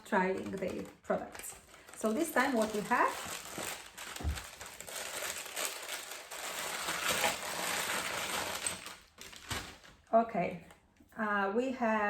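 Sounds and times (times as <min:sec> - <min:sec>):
packaging crinkling and rustling: 0:00.0 - 0:10.1.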